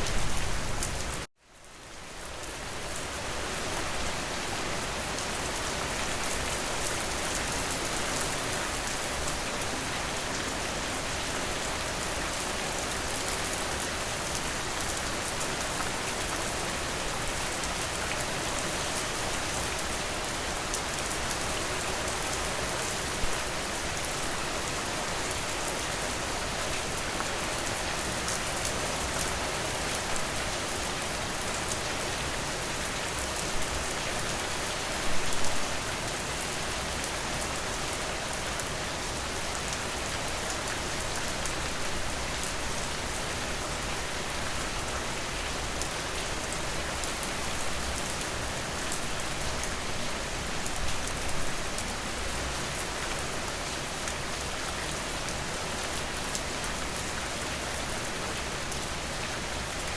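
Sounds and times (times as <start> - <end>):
rain falling on a porch: 0.0 - 59.9.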